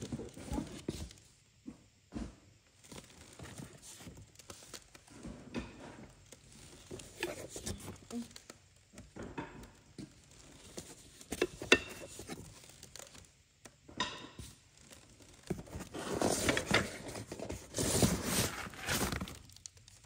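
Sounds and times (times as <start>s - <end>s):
cardboard and paper rustling: 0.0s - 1.3s, 2.2s - 9.1s, 10.0s - 13.4s, 14.7s - 20.0s.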